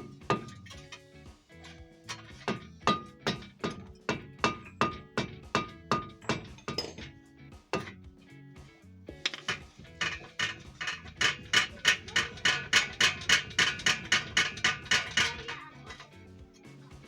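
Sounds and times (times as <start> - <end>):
hammer striking metal: 0.0 - 1.0, 1.6 - 8.0, 9.2 - 16.1
background music: 0.0 - 17.0.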